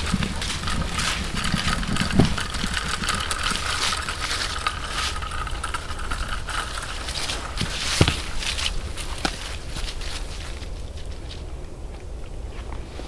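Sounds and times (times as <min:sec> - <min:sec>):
wheels rolling over gravel: 0:00.0 - 0:11.5.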